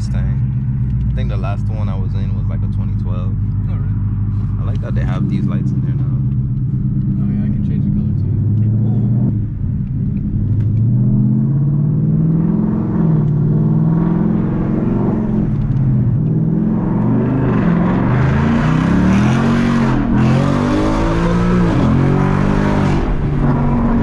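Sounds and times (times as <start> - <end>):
car engine and exhaust accelerating: 0.0 - 24.0.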